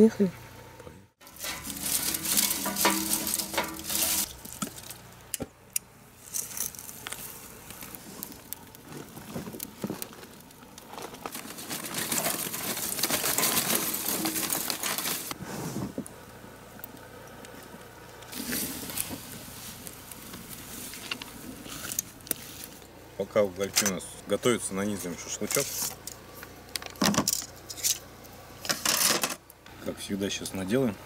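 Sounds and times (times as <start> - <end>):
charcoal crackling: 1.2 - 30.8.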